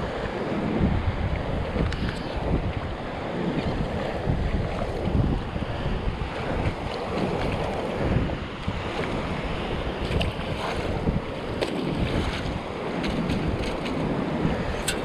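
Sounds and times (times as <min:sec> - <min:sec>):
surf washing across sand: 0:00.0 - 0:15.0
wind buffeting the microphone: 0:00.0 - 0:15.0.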